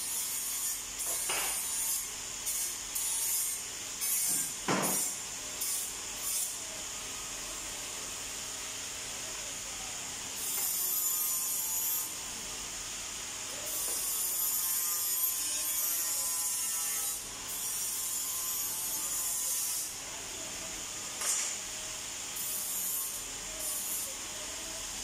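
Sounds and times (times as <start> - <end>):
workshop background: 0.0 - 25.0.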